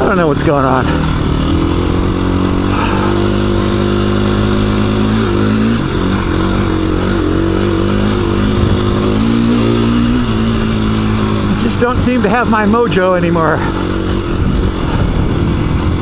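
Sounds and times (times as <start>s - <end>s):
motorcycle engine running low speed: 0.0s - 16.0s.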